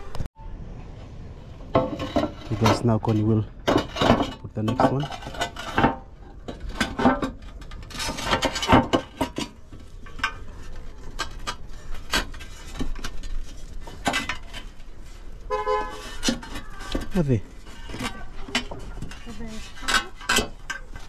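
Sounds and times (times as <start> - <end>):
roof tiles clinking: 1.5 - 21.0.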